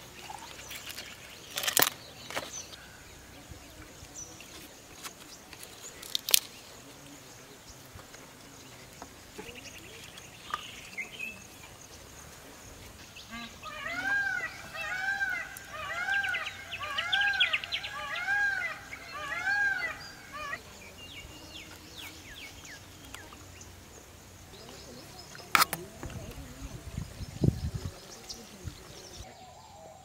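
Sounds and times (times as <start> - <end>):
birds calling: 0.0 - 30.0.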